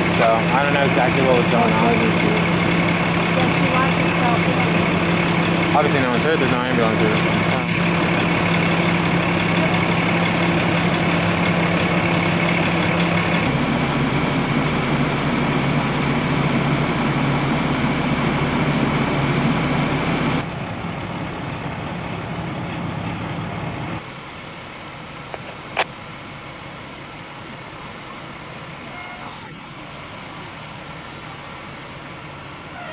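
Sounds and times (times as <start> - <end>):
diesel engines idling: 0.0 - 32.9.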